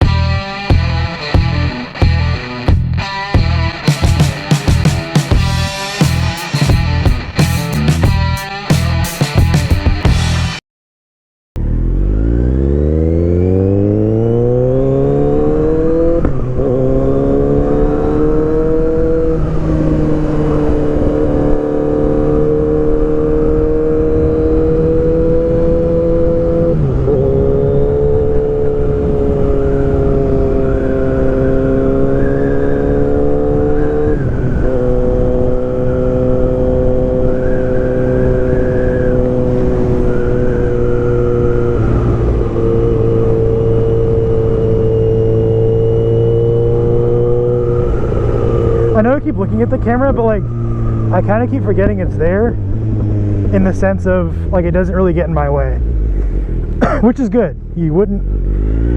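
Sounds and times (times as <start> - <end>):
motorcycle engine accelerating: 0.0 - 10.6, 11.6 - 58.9.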